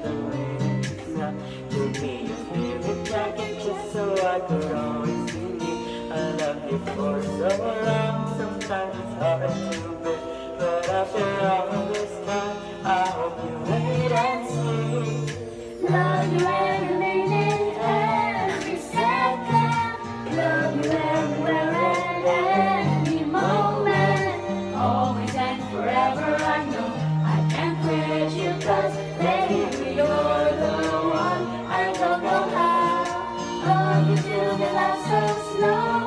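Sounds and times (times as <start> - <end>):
backing track music: 0.0 - 36.0
people singing karaoke: 0.0 - 36.0.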